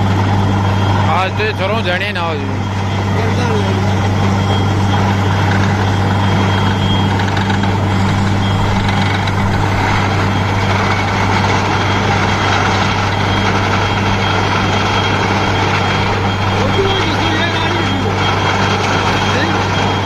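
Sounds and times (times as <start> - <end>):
dense mechanical noise: 0.0 - 20.0
drilling rig engine drone: 0.0 - 20.0.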